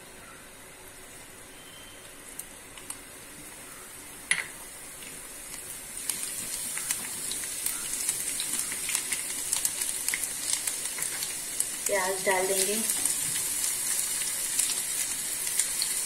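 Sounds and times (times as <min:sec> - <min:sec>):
garlic and onion sizzling in oil: 0:00.8 - 0:16.0.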